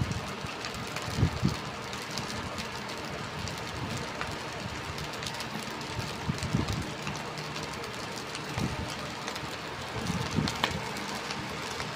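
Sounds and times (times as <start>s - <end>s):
rice sizzling in a pan: 0.0s - 11.9s.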